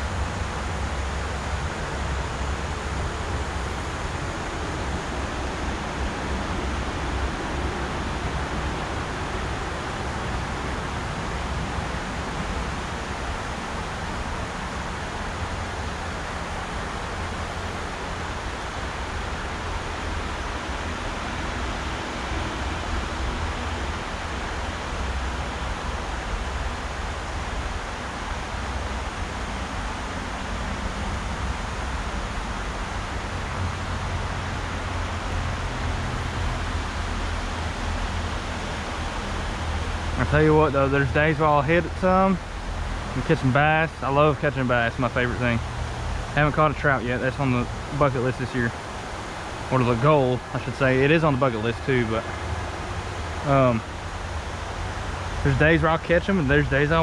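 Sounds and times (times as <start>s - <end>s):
mountain river rushing: 0.0s - 57.0s.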